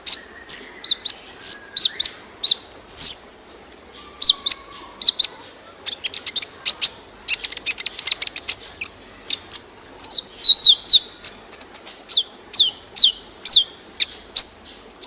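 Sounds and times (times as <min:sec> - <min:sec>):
bird singing high chirps: 0:00.0 - 0:03.3, 0:03.9 - 0:14.8
faint waterfall rush: 0:00.0 - 0:15.0.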